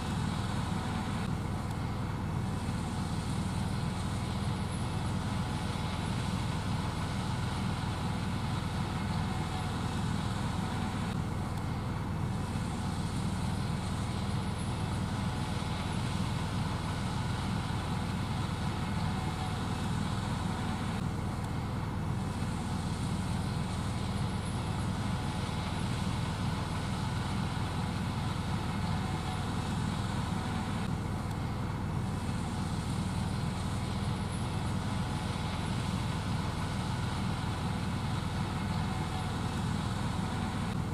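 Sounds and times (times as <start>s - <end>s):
combine harvester droning: 0.0s - 40.9s.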